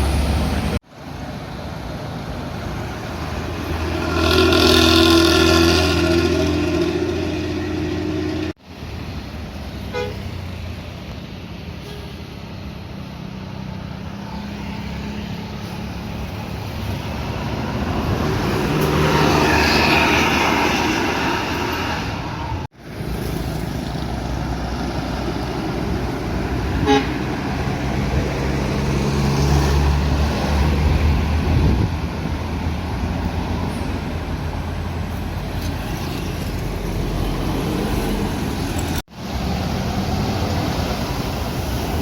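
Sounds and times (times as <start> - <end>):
bus diesel engines climbing: 0.0 - 42.0.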